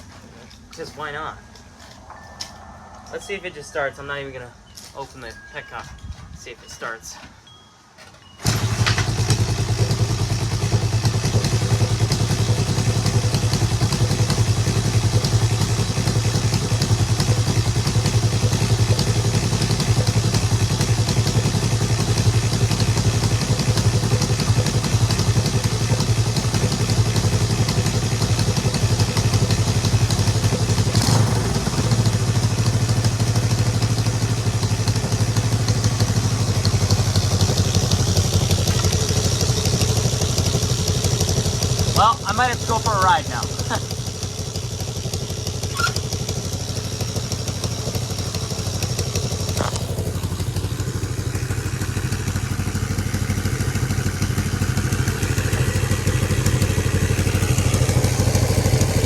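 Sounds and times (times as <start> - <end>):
motorcycle engine idling: 8.4 - 59.0.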